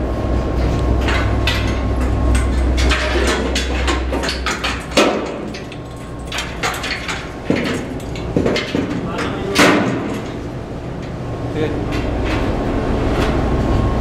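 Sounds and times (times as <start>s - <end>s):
knocks and clanks: 0.5s - 11.2s, 11.8s - 13.4s.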